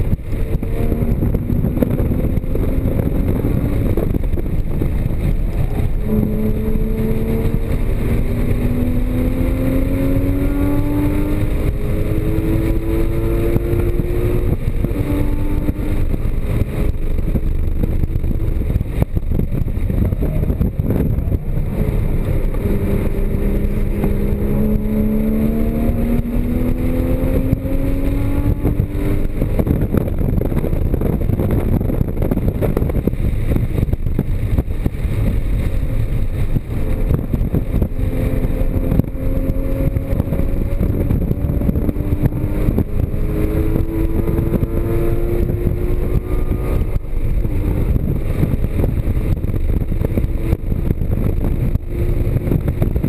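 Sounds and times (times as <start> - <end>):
car engine accelerating hard: 0.0 - 53.0
road and wind rumble: 0.0 - 53.0.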